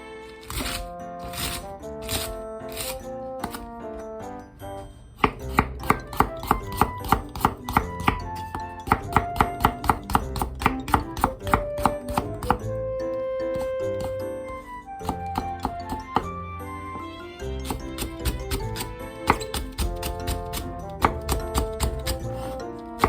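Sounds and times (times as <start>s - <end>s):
background music: 0.0s - 23.0s
knife chopping on cutting board: 0.5s - 3.7s, 5.2s - 12.7s, 13.5s - 16.3s, 17.6s - 23.0s.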